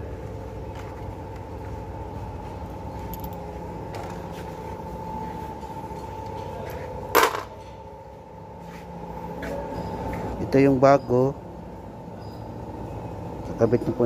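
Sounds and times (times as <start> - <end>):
low machine rumble: 0.0 - 14.0
machine whine: 0.0 - 14.0.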